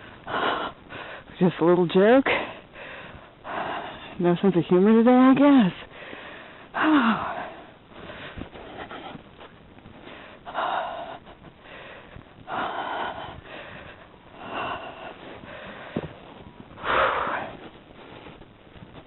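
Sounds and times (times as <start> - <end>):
person breathing heavily: 0.0 - 1.4, 2.3 - 4.2, 5.8 - 18.4.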